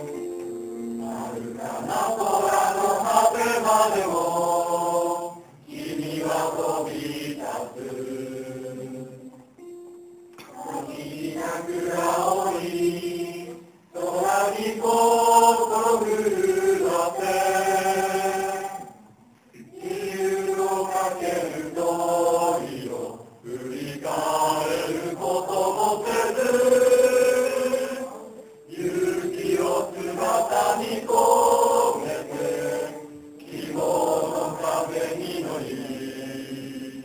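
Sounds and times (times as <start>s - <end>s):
group of people singing in unison: 0.0s - 9.4s, 10.4s - 37.0s.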